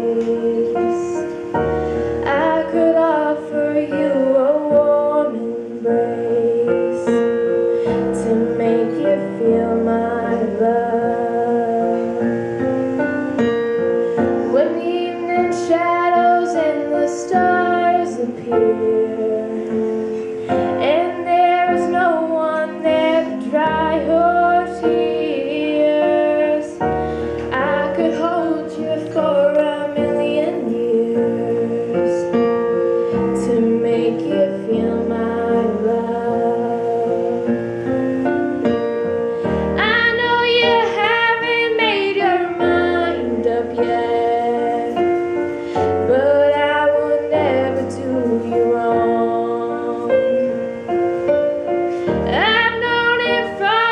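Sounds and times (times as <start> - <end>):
woman singing into a microphone: 0.0 - 53.9.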